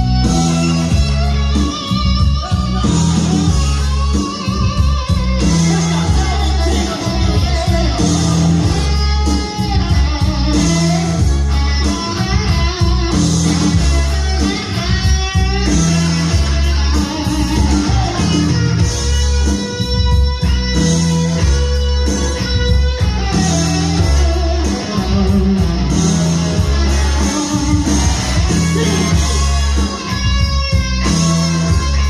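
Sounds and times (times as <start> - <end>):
guitar-led music with beat: 0.0 - 32.0.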